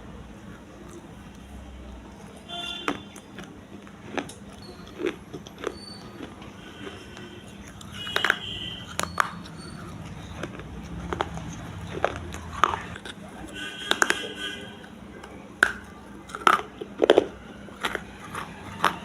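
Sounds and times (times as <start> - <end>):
steady low hum: 0.0 - 19.0
baked clay crunching and cracking: 0.5 - 19.0.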